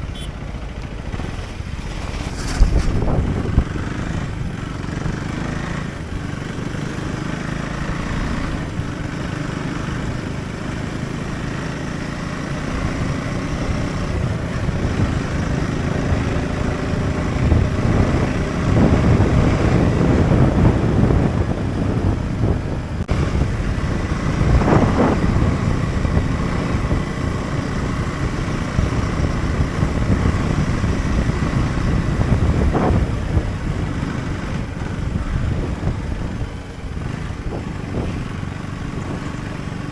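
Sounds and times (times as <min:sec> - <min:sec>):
motorcycle engine running: 0:00.0 - 0:39.9
dense rushing noise: 0:01.0 - 0:06.8, 0:13.6 - 0:39.9.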